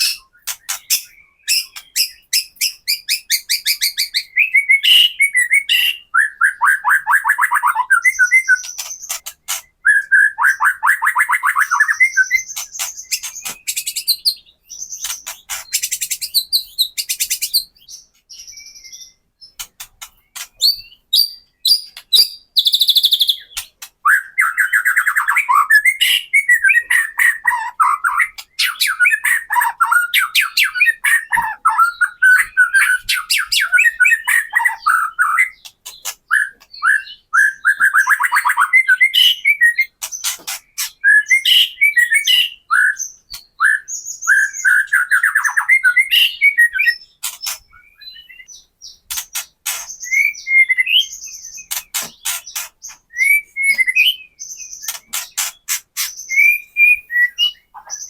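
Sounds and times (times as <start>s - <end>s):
bird harsh rattling calls: 0.0s - 18.1s, 18.8s - 58.0s
bird whistling song and trills: 0.0s - 58.0s.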